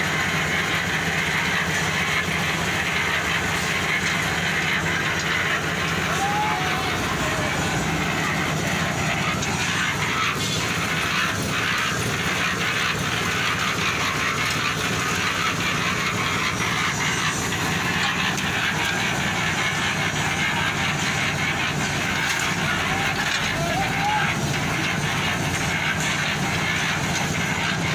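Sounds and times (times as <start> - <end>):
concrete mixer drum rattling: 0.0 - 27.9
engine humming: 0.0 - 27.9.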